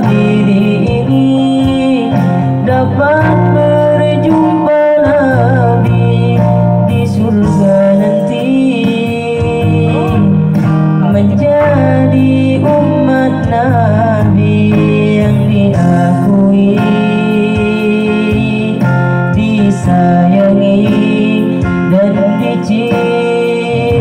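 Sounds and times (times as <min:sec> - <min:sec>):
guitar accompaniment: 0:00.0 - 0:24.0
man singing devotional melody: 0:00.0 - 0:24.0.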